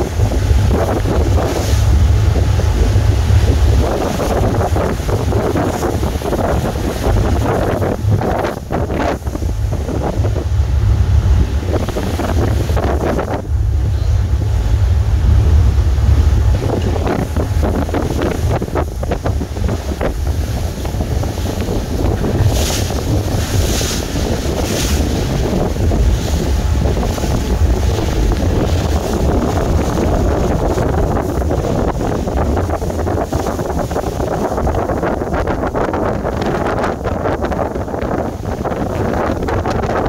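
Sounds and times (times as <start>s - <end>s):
passing ferry running: 0.0s - 40.0s
water washing: 0.0s - 40.0s
wind buffeting microphone: 0.0s - 40.0s.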